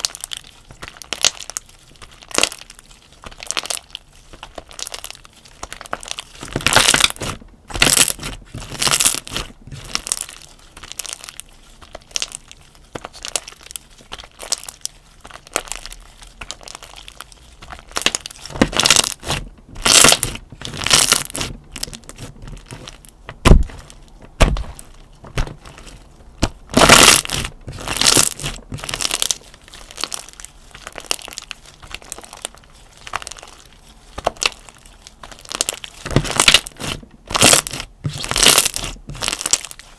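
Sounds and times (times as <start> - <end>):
slime squishing and popping: 0.0 - 39.9.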